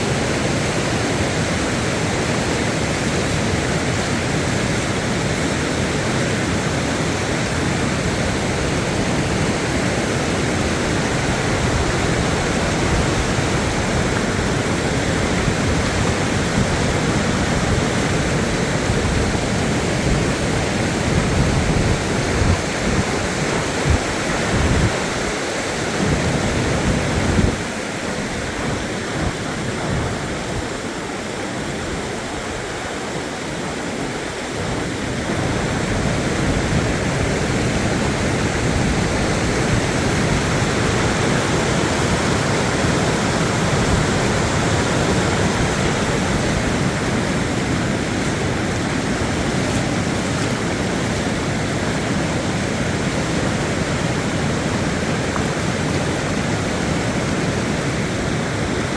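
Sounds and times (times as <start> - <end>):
rushing floodwater: 0.0 - 58.9.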